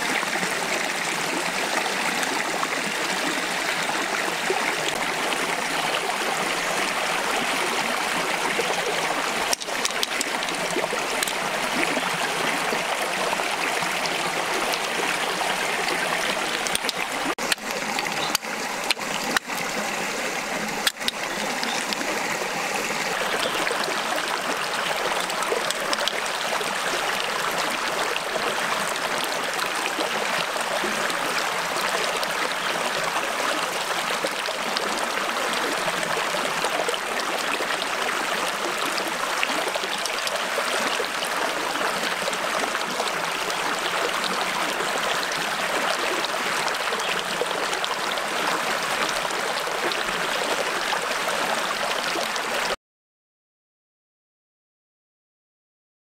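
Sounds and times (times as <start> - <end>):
water rushing over rocks: 0.0 - 52.8.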